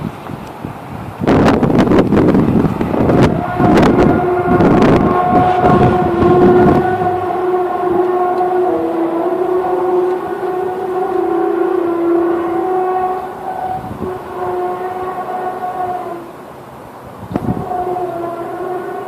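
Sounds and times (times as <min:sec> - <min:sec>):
droning horn-like tone: 0:02.2 - 0:16.5, 0:17.2 - 0:19.0.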